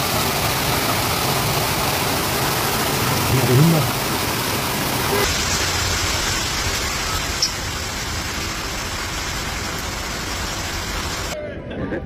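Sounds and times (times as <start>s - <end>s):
heavy rain pouring: 0.0s - 11.4s.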